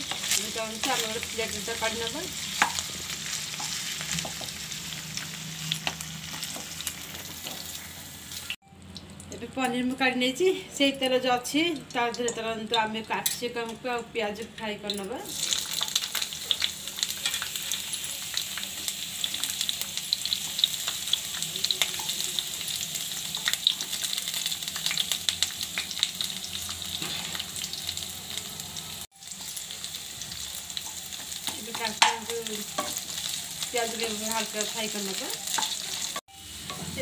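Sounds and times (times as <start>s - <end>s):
vegetables sizzling in hot oil: 0.0s - 37.0s.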